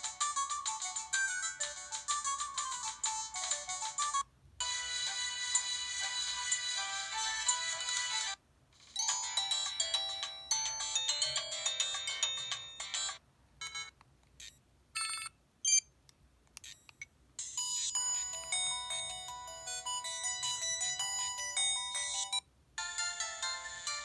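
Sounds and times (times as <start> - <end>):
electronic ringtone melodies: 0.0 - 13.2, 17.4 - 24.0.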